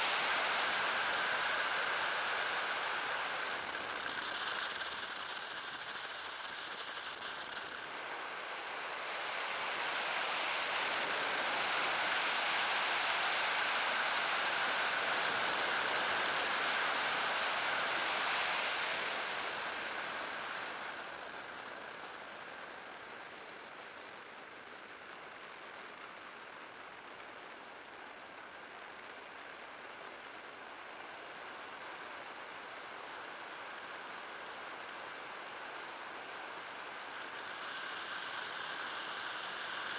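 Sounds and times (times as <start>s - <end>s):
propeller and airflow hiss: 0.0s - 24.4s, 27.6s - 39.9s.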